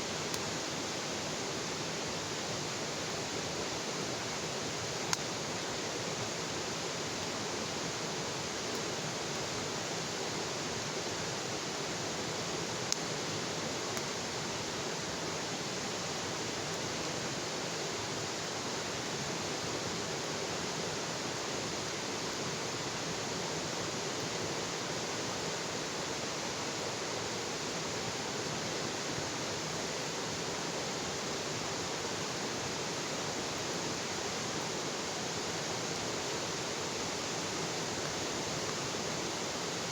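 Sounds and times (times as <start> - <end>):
bonfire hissing: 0.0 - 39.9.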